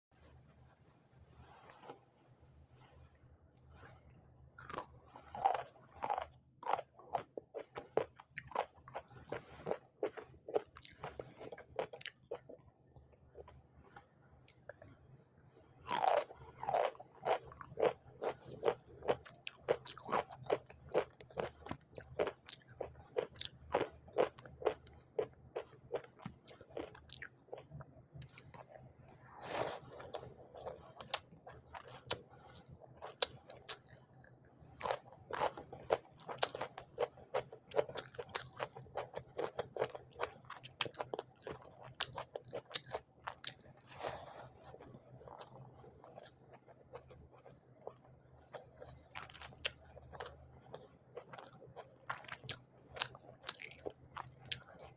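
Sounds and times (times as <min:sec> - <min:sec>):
chewing crunchy food: 0:03.8 - 0:15.0, 0:15.8 - 0:54.9.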